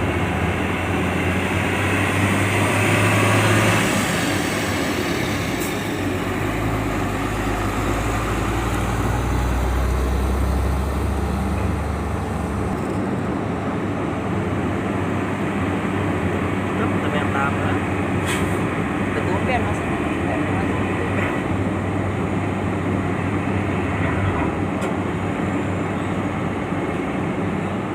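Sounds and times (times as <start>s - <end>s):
vehicle engines droning: 0.0s - 27.9s.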